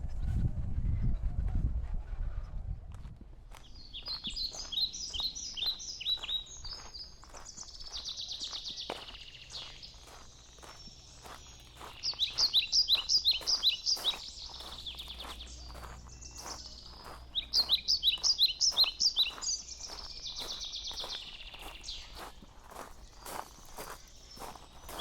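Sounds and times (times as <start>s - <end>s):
footsteps on a path: 2.9s - 25.0s
songbird chirping: 3.5s - 25.0s.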